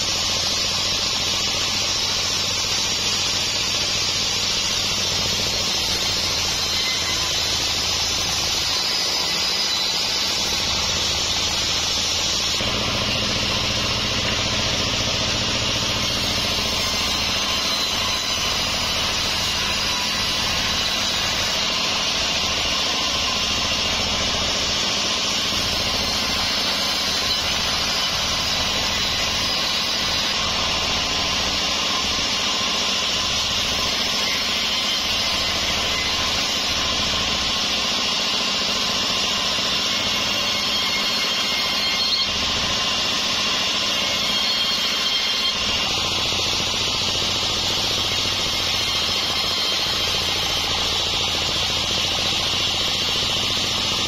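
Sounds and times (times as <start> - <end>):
saw blade hissing through log: 0.0 - 54.0
sawmill machine hum: 0.0 - 54.0.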